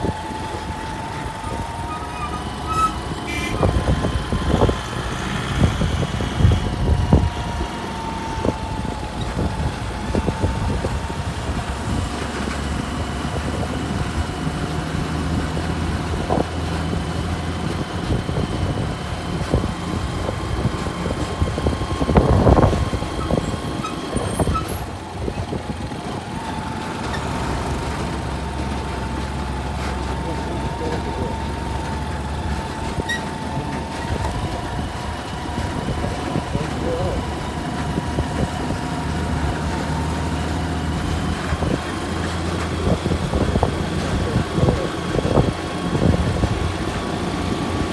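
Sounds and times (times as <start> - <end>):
truck engine whining: 0.0 - 47.9.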